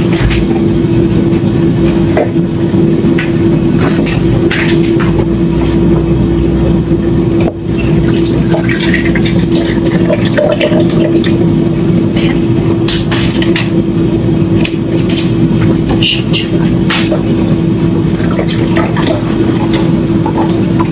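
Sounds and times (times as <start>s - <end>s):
kitchen appliance humming: 0.0s - 20.9s.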